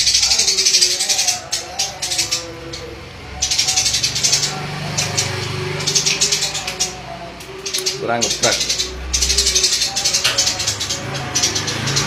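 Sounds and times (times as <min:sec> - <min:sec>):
songbird buzzing rattling chatter: 0:00.0 - 0:12.0.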